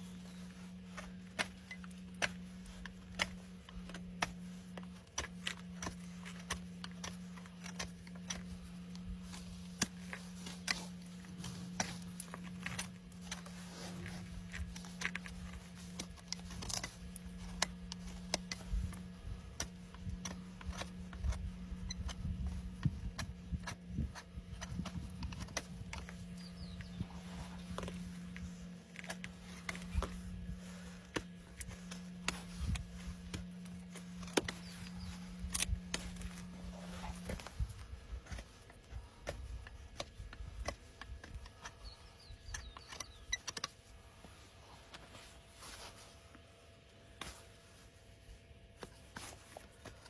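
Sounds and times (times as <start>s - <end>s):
steady low hum: 0.0s - 50.0s
trimming tools clicking on hoof: 0.2s - 44.0s.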